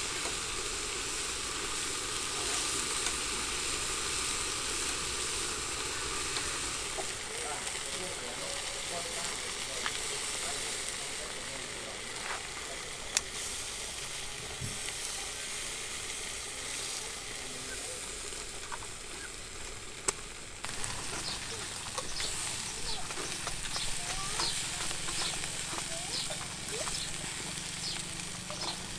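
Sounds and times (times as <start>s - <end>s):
meat sizzling on a grill: 0.0s - 28.9s.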